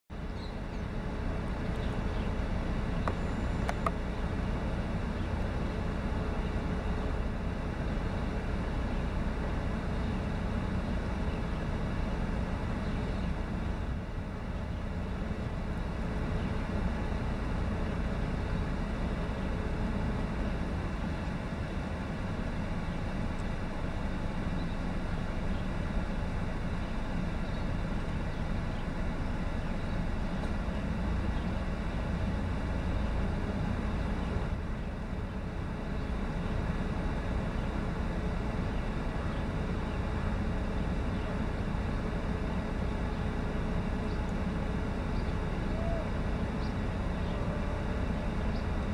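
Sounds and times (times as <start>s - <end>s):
urban road traffic rumble: 0.1s - 48.9s.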